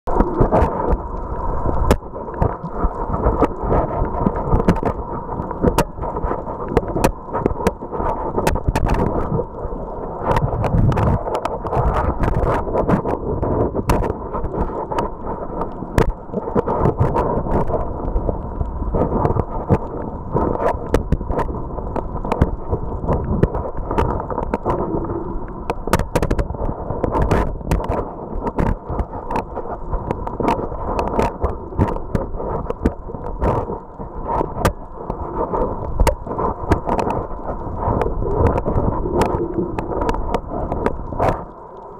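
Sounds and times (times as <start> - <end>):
muffled low underwater rumble: 0.1 - 41.9
sharp clicks underwater: 0.1 - 41.9.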